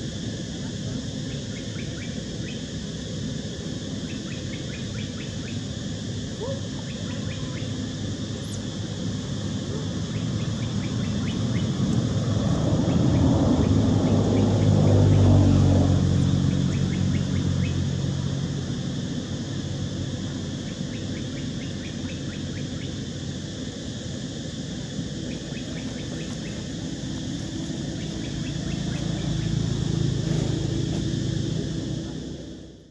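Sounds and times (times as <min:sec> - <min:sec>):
high insect drone: 0:00.0 - 0:32.9
low motor hum: 0:00.0 - 0:32.9.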